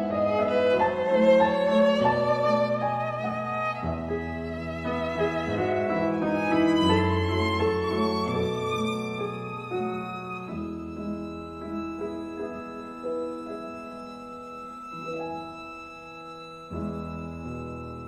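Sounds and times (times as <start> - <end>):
slow violin and piano music: 0.0 - 18.0.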